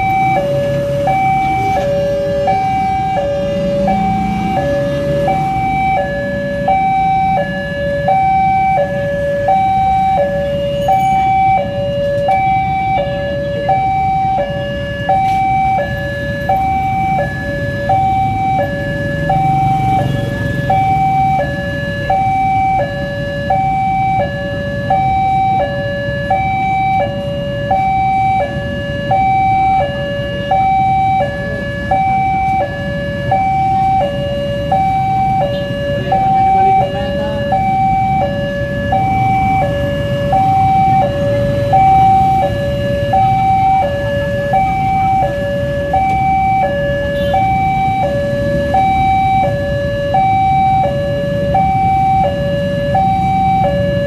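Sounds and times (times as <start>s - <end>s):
idling traffic rumble: 0.0s - 54.0s
level crossing two-tone alarm: 0.0s - 54.0s.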